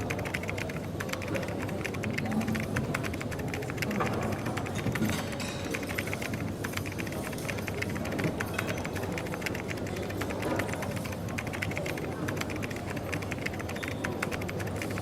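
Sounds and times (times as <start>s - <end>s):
light clicks and clatter: 0.0s - 15.0s
murmur of background noise: 0.0s - 15.0s.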